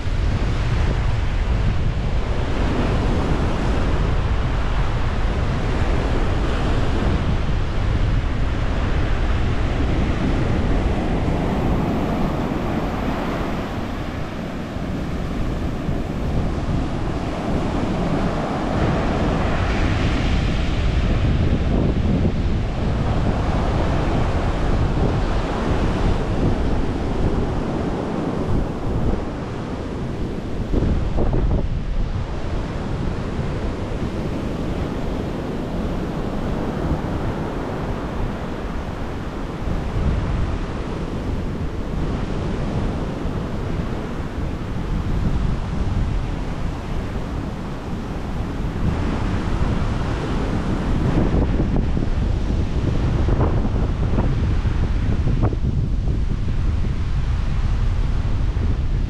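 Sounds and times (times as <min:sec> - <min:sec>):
sea surf washing on shore: 0:00.0 - 0:59.0
wind buffeting microphone: 0:00.0 - 0:59.0.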